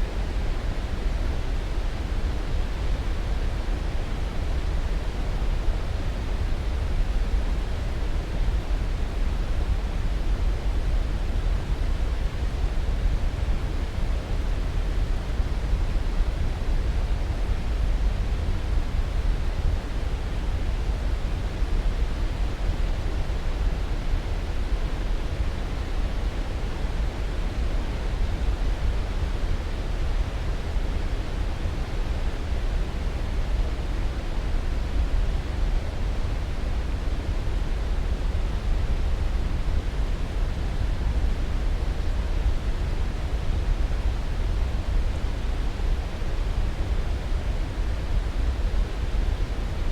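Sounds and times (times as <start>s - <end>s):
deep white noise: 0.0s - 49.9s.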